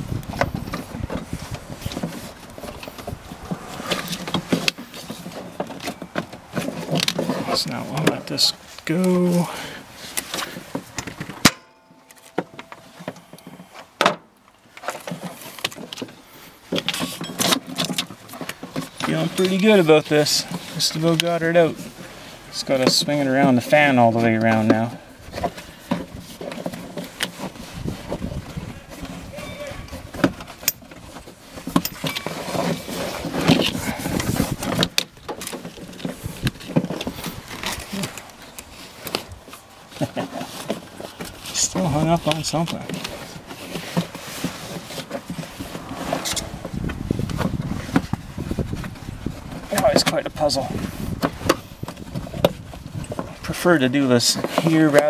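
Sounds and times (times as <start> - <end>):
rubber belt scraping and rubbing: 0.0 - 11.4, 14.7 - 55.0.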